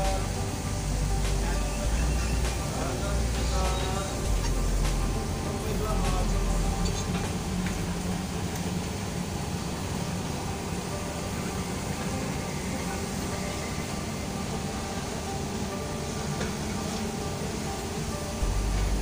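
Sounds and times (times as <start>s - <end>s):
even hiss: 0.0s - 19.0s
ship machinery hum: 0.0s - 19.0s.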